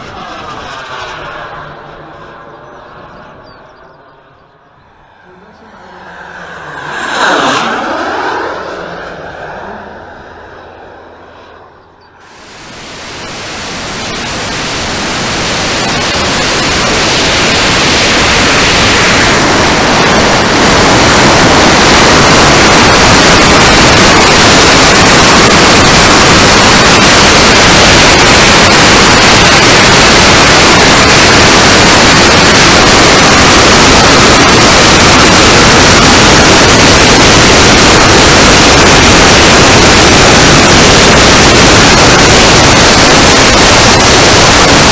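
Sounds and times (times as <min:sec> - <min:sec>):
jet turbine: 0:00.0 - 0:44.9
air rushing over microphone: 0:04.9 - 0:44.9.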